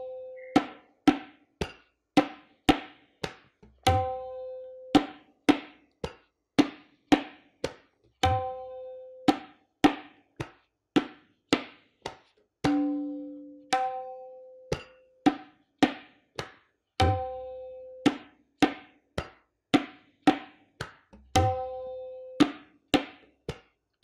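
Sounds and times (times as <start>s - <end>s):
tabla strokes: 0.0s - 23.7s.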